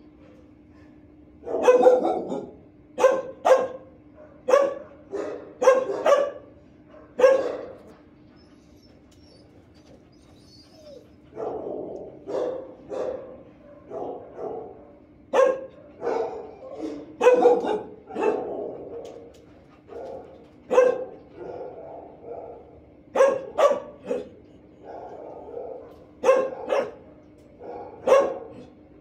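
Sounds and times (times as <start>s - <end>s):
steady low hum: 0.0s - 29.0s
dogs barking with echo: 1.4s - 8.0s, 10.9s - 28.8s.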